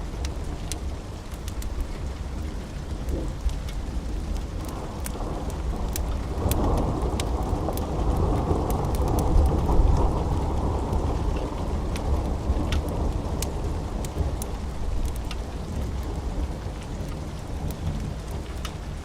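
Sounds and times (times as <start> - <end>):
low rumble of thunder: 0.0 - 19.0
steady rain: 0.0 - 19.0
wood fire crackling and popping: 0.0 - 19.0.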